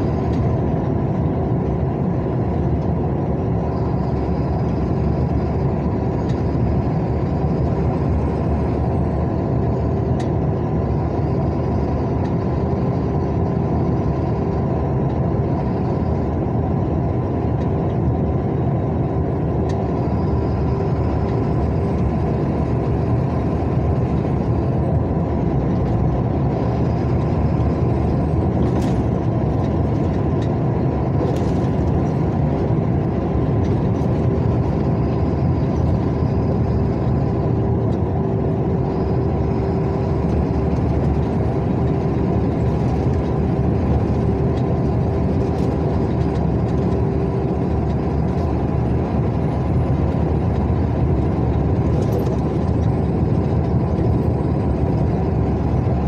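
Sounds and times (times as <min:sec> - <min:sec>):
car engine running: 0:00.0 - 0:56.0
tyres rolling on asphalt: 0:00.0 - 0:56.0.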